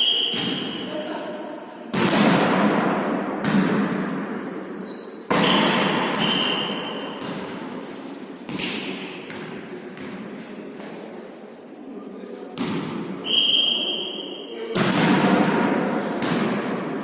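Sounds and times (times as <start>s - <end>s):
volleyball thuds in echoing hall: 0.0s - 17.0s.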